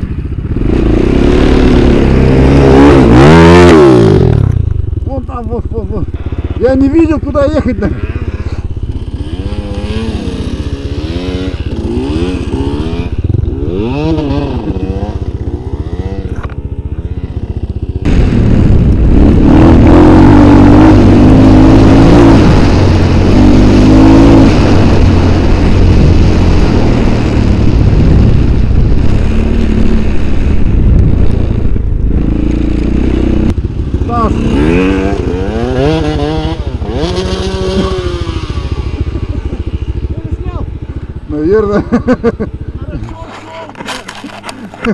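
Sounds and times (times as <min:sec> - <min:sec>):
small vehicle engine revving: 0:00.0 - 0:04.7, 0:06.0 - 0:43.1.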